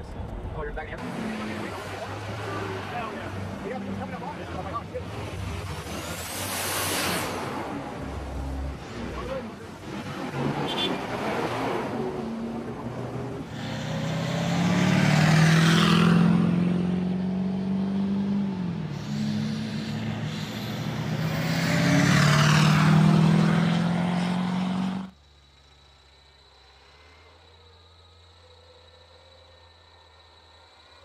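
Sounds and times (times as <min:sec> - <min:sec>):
tyres on dirt road: 0:00.0 - 0:31.0.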